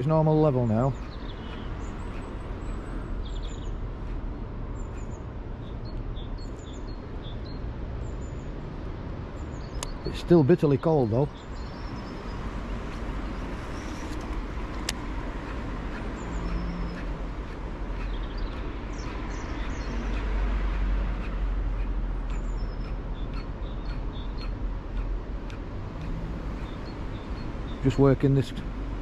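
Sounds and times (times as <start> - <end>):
bird chirps: 0.0 - 8.6, 9.4 - 28.7.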